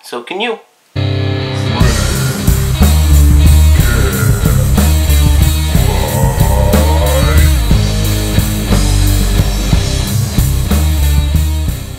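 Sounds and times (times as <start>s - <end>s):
electric guitar: 1.0s - 11.9s
rock music: 1.0s - 11.9s
steady drum beat: 1.8s - 11.9s.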